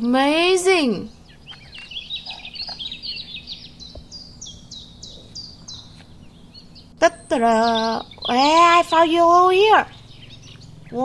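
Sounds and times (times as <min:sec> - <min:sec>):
small songbird chirping: 0:00.1 - 0:11.0.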